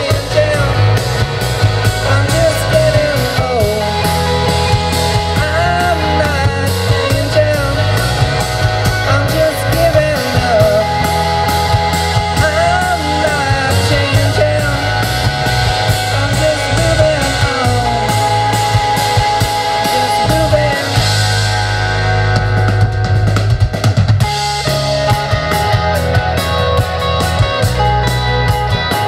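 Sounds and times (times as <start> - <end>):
bass guitar: 0.0 - 29.0
drum kit: 0.0 - 29.0
electric guitars with bent notes: 0.0 - 29.0.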